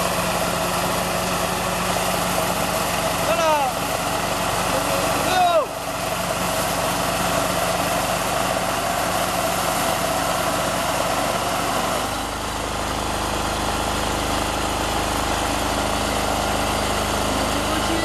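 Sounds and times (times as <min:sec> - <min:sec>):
harvester engine running: 0:00.0 - 0:18.0.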